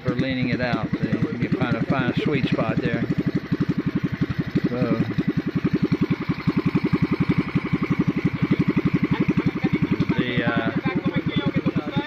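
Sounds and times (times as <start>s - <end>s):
small gasoline engine idling: 0.0s - 12.0s.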